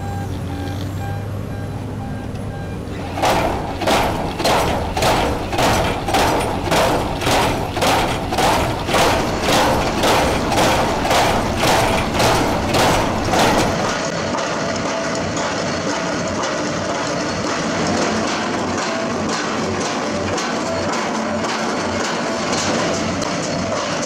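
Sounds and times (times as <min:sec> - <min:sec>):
drilling rig clanking: 0:00.0 - 0:24.0
heavy engine hum: 0:00.0 - 0:24.0.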